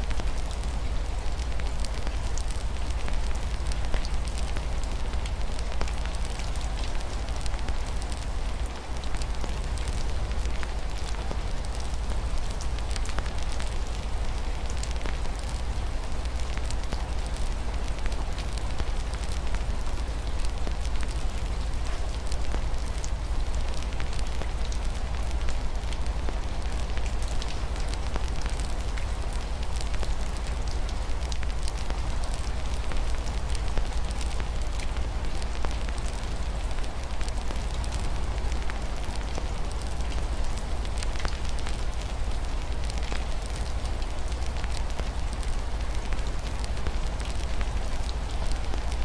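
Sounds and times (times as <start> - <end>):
rain on a window: 0.0 - 49.0.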